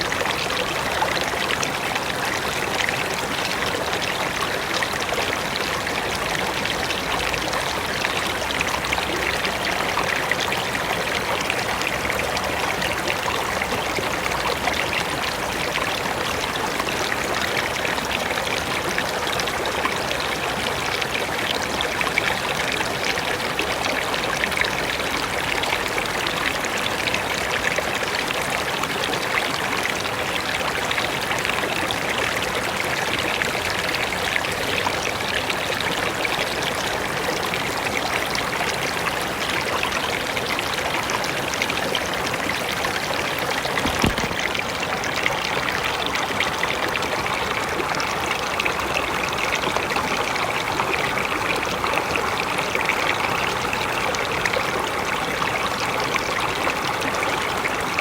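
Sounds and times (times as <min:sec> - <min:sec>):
river running over rocks: 0:00.0 - 0:58.0.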